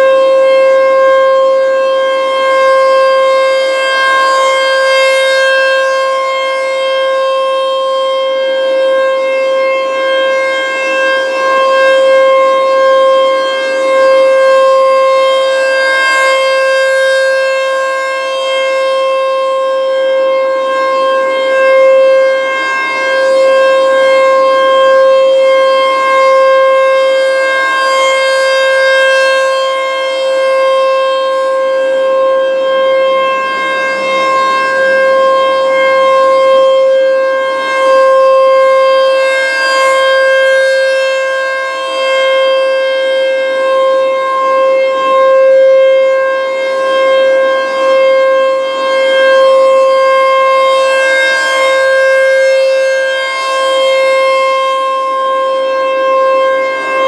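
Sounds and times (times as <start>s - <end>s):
rotating warning siren: 0.0s - 57.0s.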